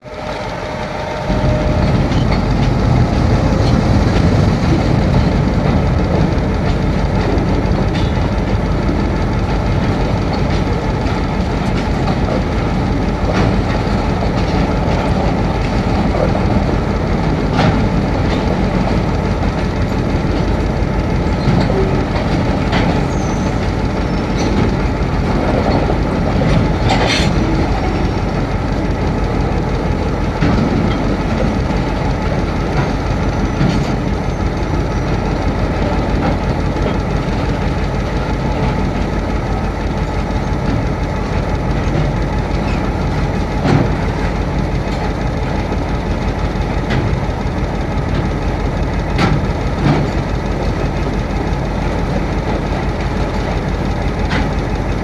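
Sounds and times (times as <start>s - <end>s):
train wheels rumbling on track: 0.0s - 55.0s
sharp track clicks: 0.1s - 55.0s.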